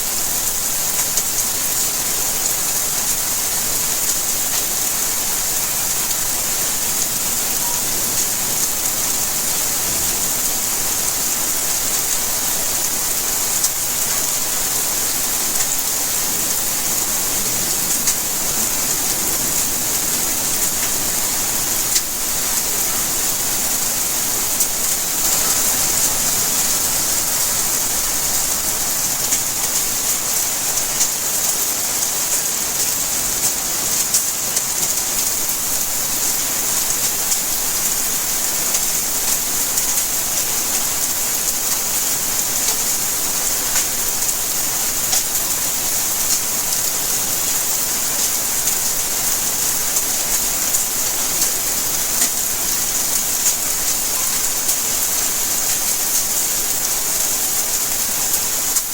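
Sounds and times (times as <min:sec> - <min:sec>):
steady rain hiss: 0:00.0 - 0:58.9
rain drop ticks: 0:03.9 - 0:58.9.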